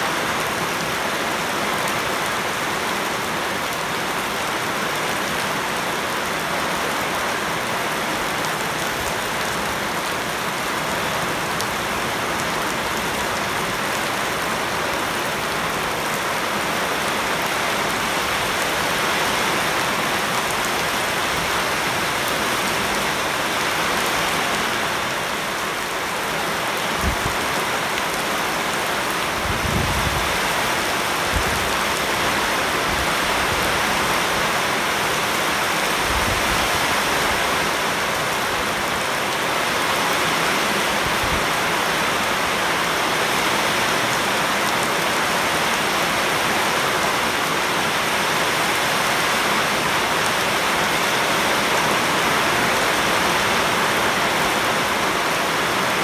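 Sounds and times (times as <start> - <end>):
heavy rain on leaves and pavement: 0.0 - 56.0.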